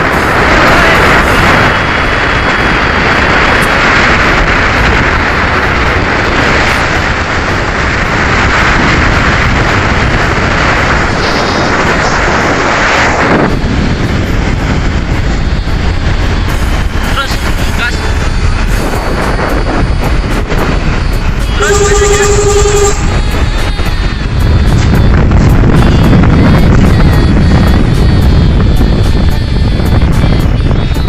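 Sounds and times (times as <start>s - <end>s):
truck passing: 0.0s - 30.9s
wind on microphone: 0.0s - 31.0s.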